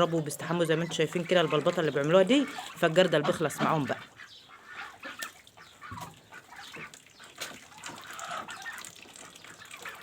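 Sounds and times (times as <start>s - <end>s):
poultry clucking: 0.0s - 10.0s
water splashing in a bucket: 0.9s - 4.0s, 5.0s - 10.0s.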